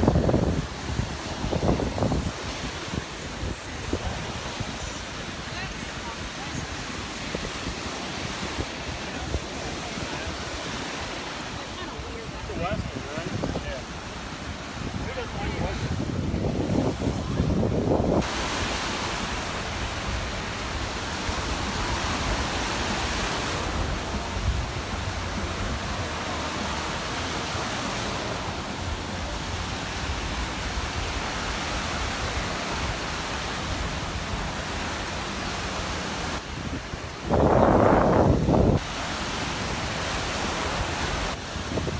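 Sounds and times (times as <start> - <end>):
surf breaking on beach: 0.0 - 41.9
wind rumble on microphone: 0.0 - 41.9.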